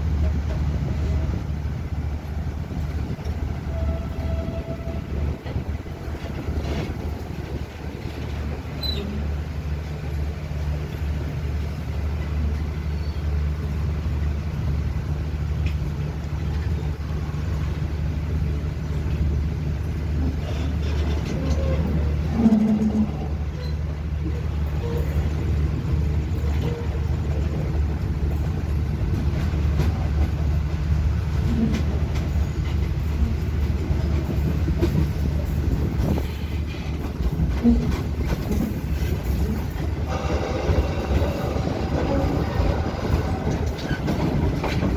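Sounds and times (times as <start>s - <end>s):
train interior low drone: 0.0s - 44.9s.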